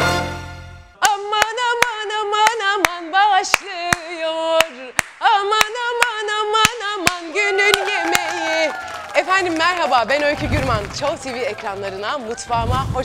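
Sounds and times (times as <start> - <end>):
steady handclaps: 1.0 - 12.3
woman singing: 1.0 - 13.0.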